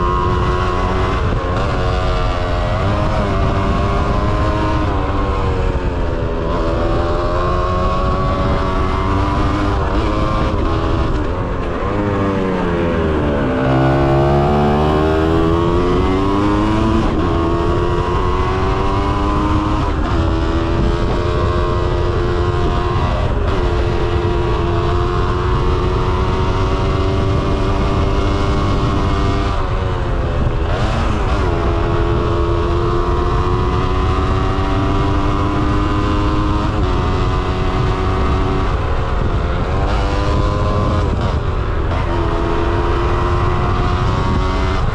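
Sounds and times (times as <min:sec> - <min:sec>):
wind on microphone: 0:00.0 - 0:44.9.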